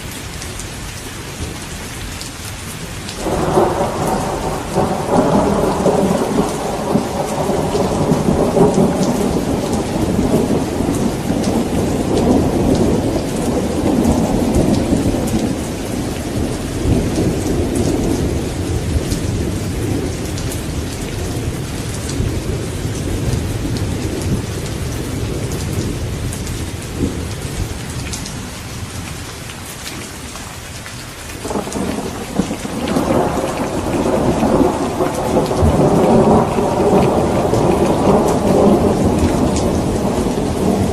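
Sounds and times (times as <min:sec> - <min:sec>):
heavy rain: 0:00.0 - 0:40.9
rolling thunder: 0:03.2 - 0:28.2, 0:31.4 - 0:40.9.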